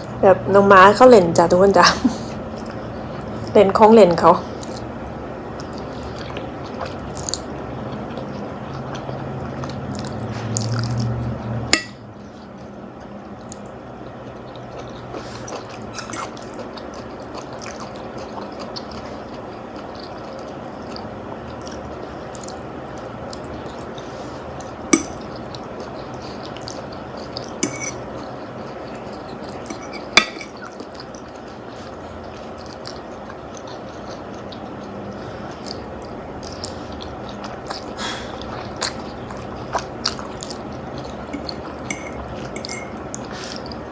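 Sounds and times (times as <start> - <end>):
wet mouth eating sounds: 4.4 - 4.9, 5.5 - 43.9.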